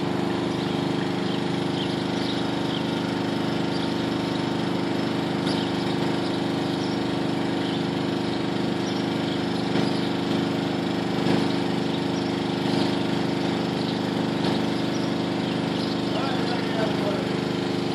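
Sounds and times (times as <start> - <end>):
machine humming: 0.0 - 17.9.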